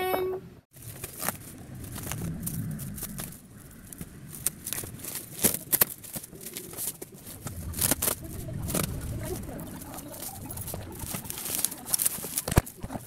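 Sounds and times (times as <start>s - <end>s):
plastic packaging crinkling: 0.8s - 13.0s.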